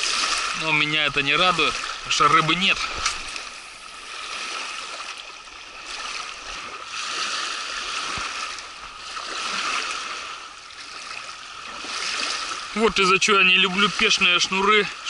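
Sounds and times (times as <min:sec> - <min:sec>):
river water lapping at pebbles: 0:00.0 - 0:15.0.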